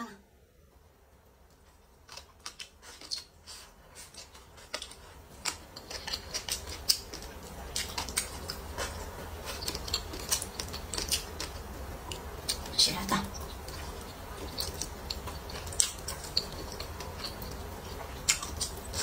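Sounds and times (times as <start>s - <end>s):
crunchy chewing of fried chicken: 1.4s - 19.0s.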